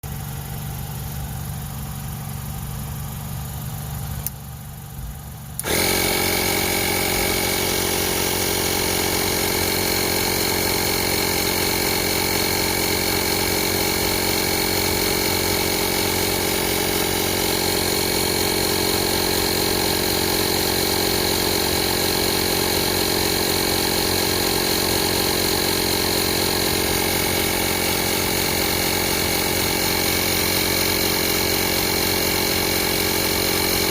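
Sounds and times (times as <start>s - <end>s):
air compressor motor whining: 0.1s - 33.9s.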